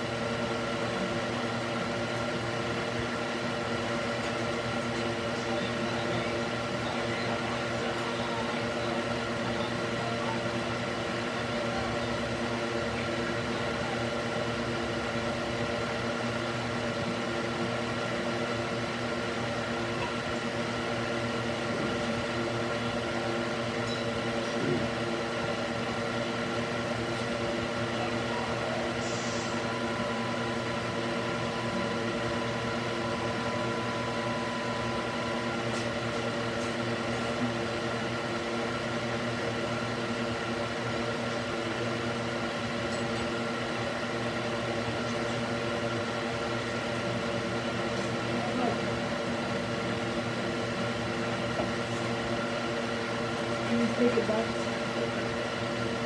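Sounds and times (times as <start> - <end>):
cooling fan humming: 0.0 - 56.0.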